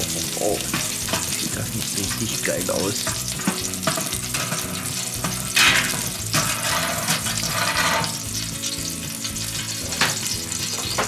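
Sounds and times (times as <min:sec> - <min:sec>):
steak sizzling on a grill: 0:00.0 - 0:11.0.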